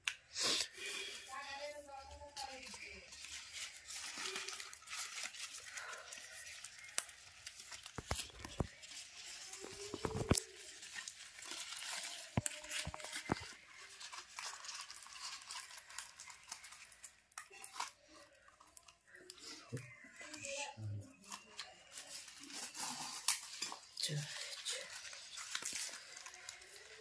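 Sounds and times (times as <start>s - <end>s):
plastic wrapping rustling: 0.7s - 27.0s.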